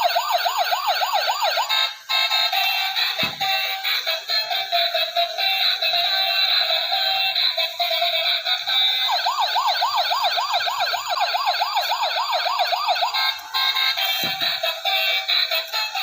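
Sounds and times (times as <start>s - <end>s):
tinny electronic toy tune: 0.0s - 16.0s
warbling toy siren: 0.0s - 16.0s.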